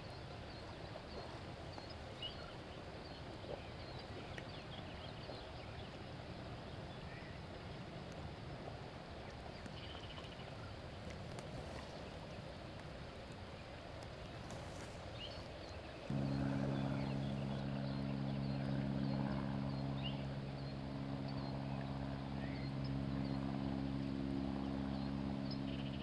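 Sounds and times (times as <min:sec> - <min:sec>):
outdoor ambient noise: 0:00.0 - 0:26.0.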